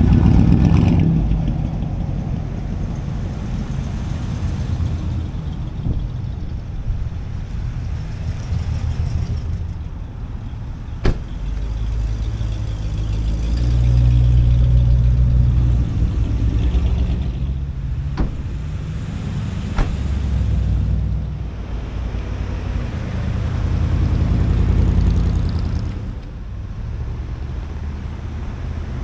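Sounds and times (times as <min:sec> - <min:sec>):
car engines driving past: 0:00.0 - 0:29.0.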